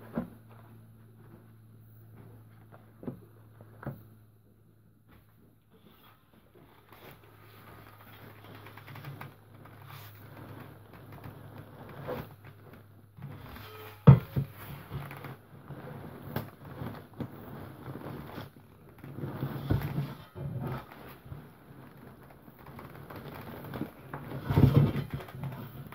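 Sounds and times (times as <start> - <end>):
steady low hum: 0.0 - 25.9
rustling and scraping rubbish: 5.0 - 25.9.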